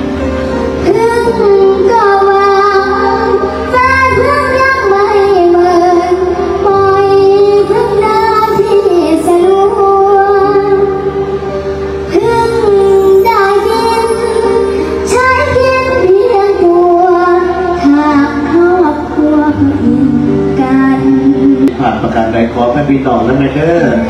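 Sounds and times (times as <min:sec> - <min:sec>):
backing music: 0:00.0 - 0:24.0
child singing: 0:00.9 - 0:11.1, 0:12.1 - 0:21.6.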